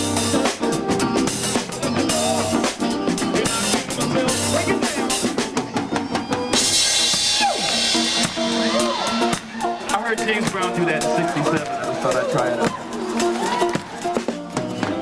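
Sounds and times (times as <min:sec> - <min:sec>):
drum kit snare and bass drum: 0:00.0 - 0:15.0
live band playing: 0:00.0 - 0:15.0.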